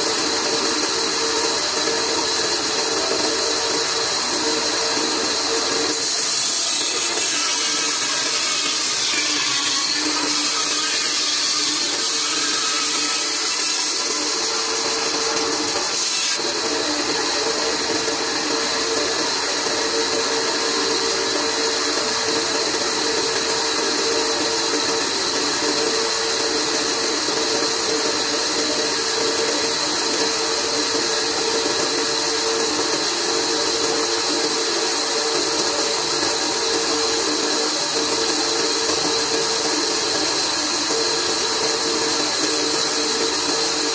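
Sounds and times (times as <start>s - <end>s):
band saw humming and hissing: 0.0s - 43.9s.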